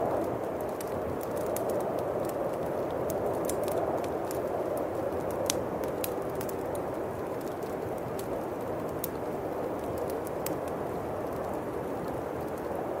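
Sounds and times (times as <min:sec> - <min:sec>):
bonfire crackling and popping: 0:00.0 - 0:13.0
howling wind: 0:00.0 - 0:13.0.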